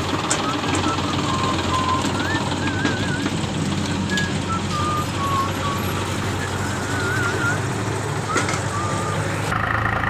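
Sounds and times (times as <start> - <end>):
tractor engine running: 0.0 - 10.0
high whistling and warbling tones: 0.3 - 3.4, 4.0 - 9.4.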